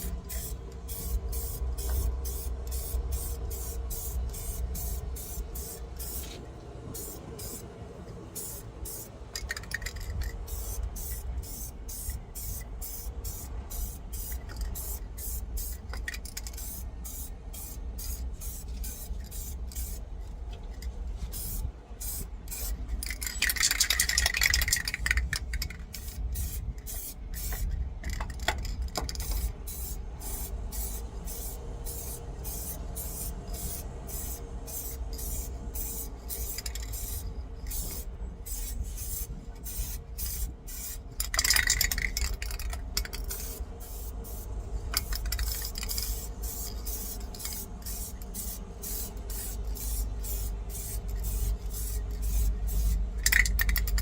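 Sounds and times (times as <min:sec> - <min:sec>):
paint spray hissing: 0:00.0 - 0:06.4, 0:07.0 - 0:07.6, 0:08.4 - 0:09.1, 0:10.5 - 0:15.8, 0:16.4 - 0:20.0, 0:21.3 - 0:22.8, 0:26.0 - 0:27.7, 0:29.2 - 0:42.1, 0:43.3 - 0:53.9.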